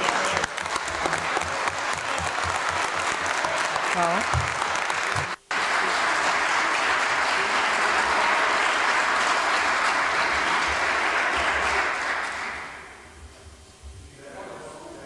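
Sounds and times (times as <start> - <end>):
crowd applause: 0.0 - 13.1.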